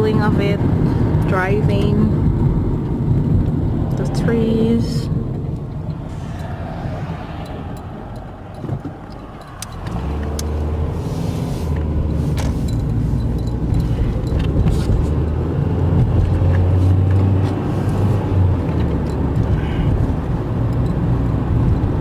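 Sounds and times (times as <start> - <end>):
road and engine rumble in car: 0.0 - 22.0.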